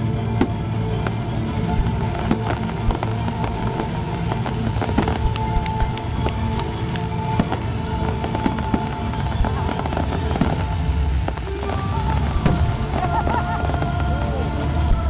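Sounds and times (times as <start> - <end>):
fireworks bangs and crackles: 0.0 - 15.0
music: 0.0 - 15.0.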